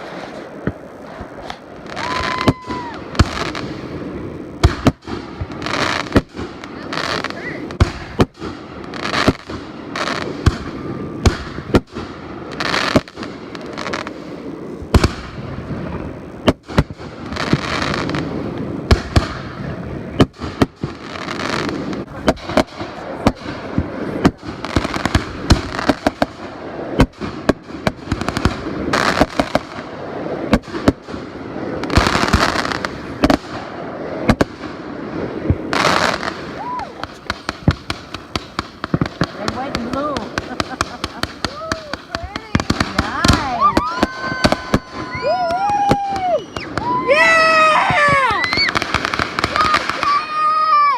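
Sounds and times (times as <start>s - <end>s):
fireworks bangs: 0.0s - 50.9s
fireworks hissing and crackling: 0.0s - 50.9s.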